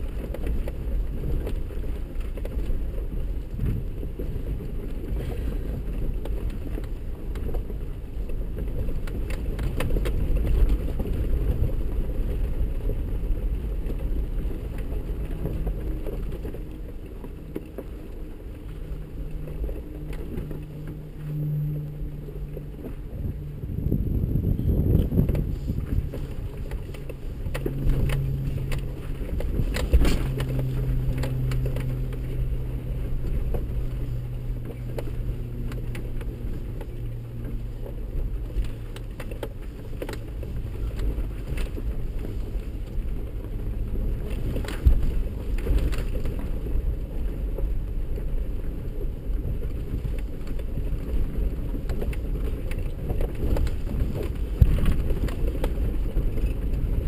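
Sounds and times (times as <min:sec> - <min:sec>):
engine and drivetrain rumble: 0:00.0 - 0:57.0
vehicle knocking and rattling: 0:00.0 - 0:57.0.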